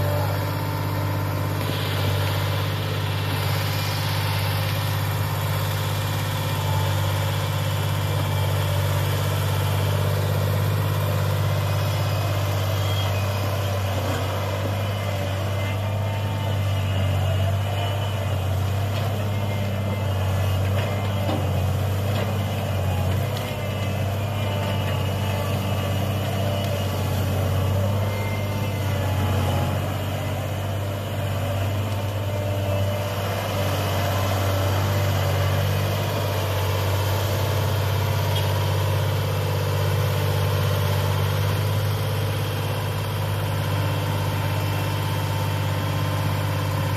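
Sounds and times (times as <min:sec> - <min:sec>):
loader engine running: 0:00.0 - 0:46.9.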